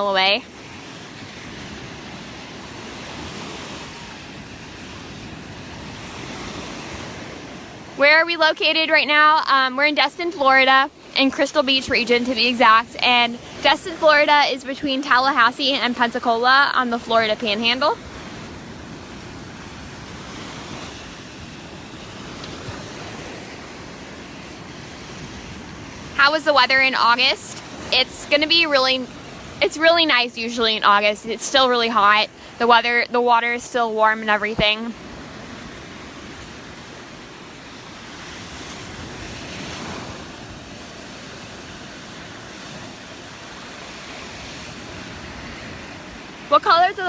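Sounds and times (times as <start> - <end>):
surf washing onto beach: 0.0 - 47.0.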